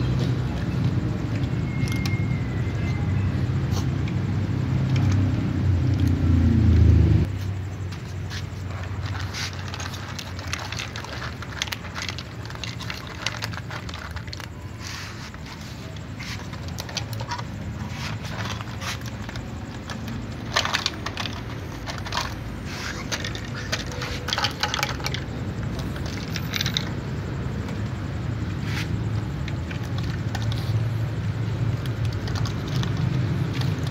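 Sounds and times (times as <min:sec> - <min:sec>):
cats crunching kibble: 0:00.0 - 0:33.9.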